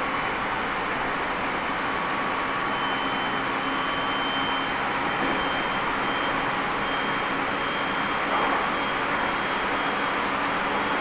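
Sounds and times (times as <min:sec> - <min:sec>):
train wheel and rail noise: 0:00.0 - 0:11.0.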